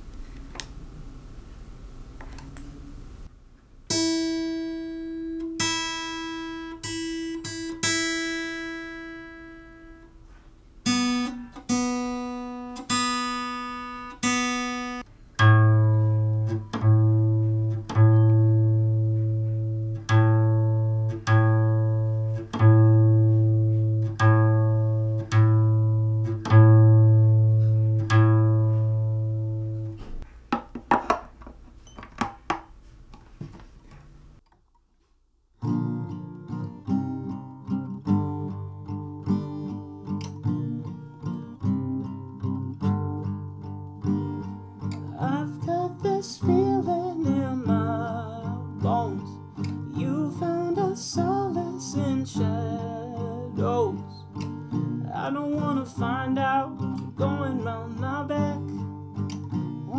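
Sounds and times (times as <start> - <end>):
guitar strings plucked: 3.9 - 10.1, 10.8 - 31.4, 35.6 - 59.9.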